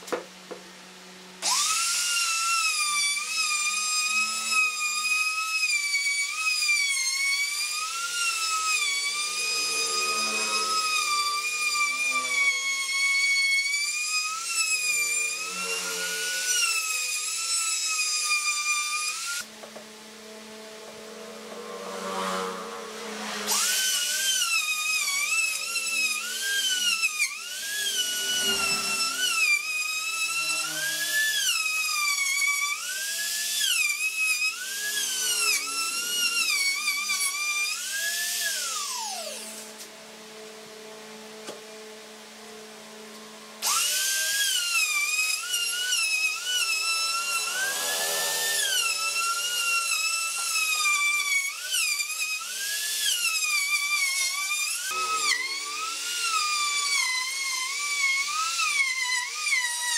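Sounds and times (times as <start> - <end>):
router motor whine: 0.0 - 59.9.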